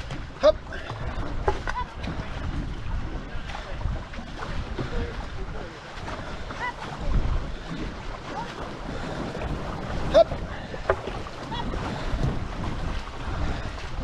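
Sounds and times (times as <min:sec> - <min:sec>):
water rushing around canoe: 0:00.0 - 0:14.0
wind buffeting microphone: 0:00.0 - 0:14.0.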